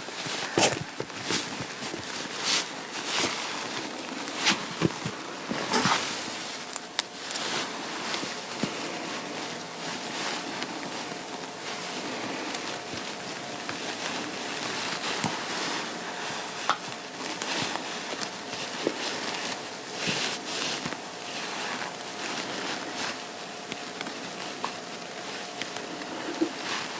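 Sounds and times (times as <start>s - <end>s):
fabric rustling: 0.0s - 26.9s.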